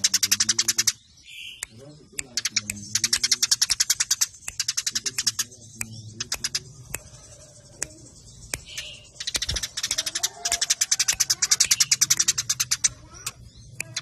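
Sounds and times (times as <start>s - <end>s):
sparrows chirping rapidly: 0.0s - 14.0s.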